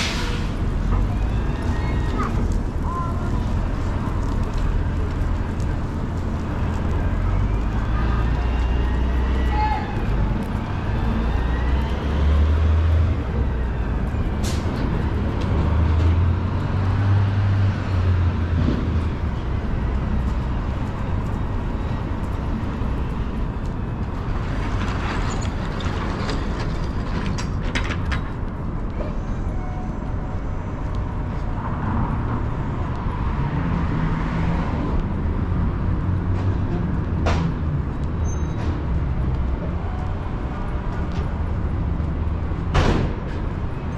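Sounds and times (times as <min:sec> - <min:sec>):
passing cars engine rumble: 0:00.0 - 0:43.9
urban noise hum: 0:00.0 - 0:43.9.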